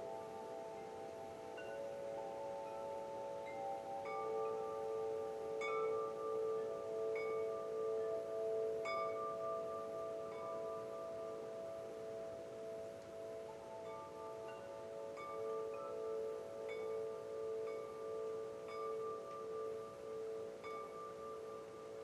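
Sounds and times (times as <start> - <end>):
wind chimes ringing: 0.0 - 22.0.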